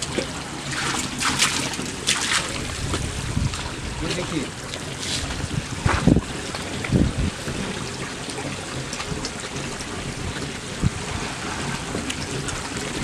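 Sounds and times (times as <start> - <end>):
water trickling into a tank: 0.0 - 13.0.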